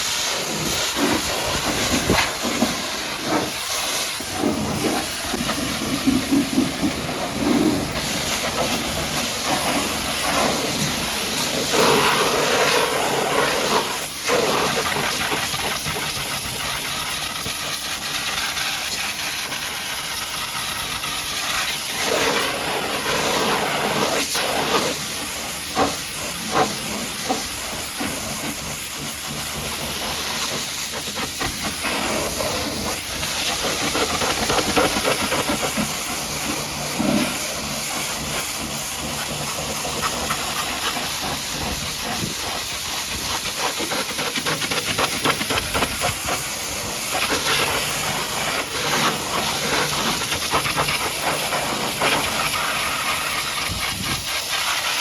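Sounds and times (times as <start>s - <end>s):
pressure washer spraying water: 0.0s - 55.0s.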